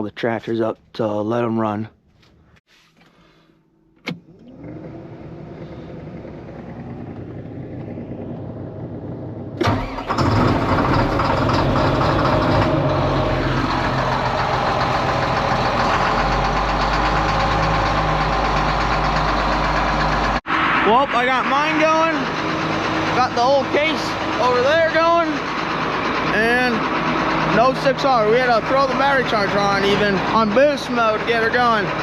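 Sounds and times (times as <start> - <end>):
diesel tractor engine starting: 3.7 - 32.0.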